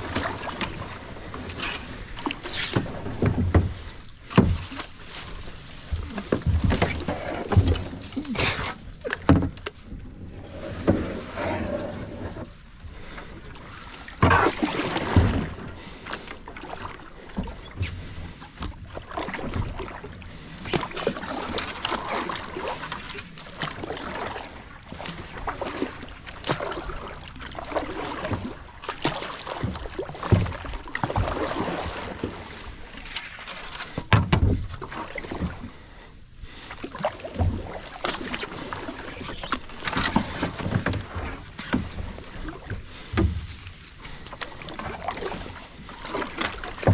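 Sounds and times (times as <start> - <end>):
paddle splashing in water: 0.0 - 46.9.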